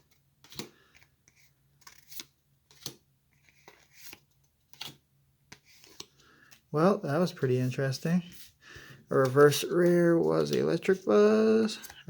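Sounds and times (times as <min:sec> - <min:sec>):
cards clicking and rustling: 0:00.0 - 0:06.7, 0:08.3 - 0:12.0.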